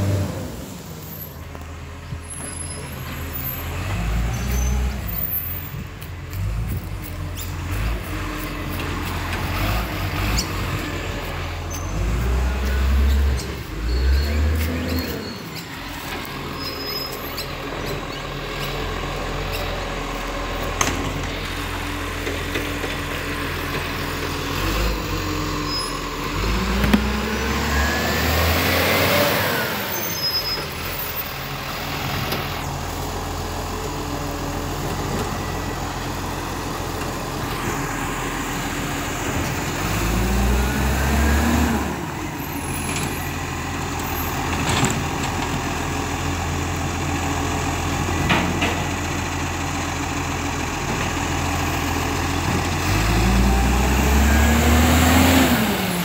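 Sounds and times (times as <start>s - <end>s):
garbage truck diesel engine: 0.0s - 56.0s.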